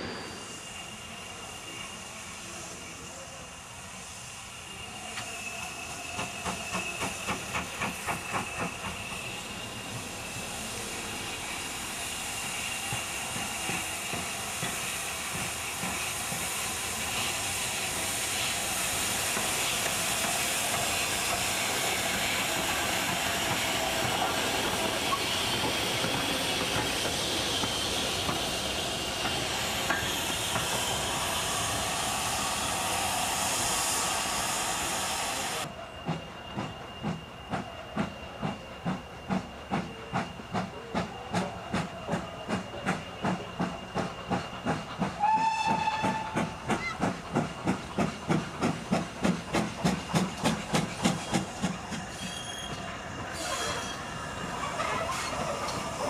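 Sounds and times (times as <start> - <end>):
steam hissing: 0.0 - 56.0
steam locomotive beats: 3.8 - 56.0.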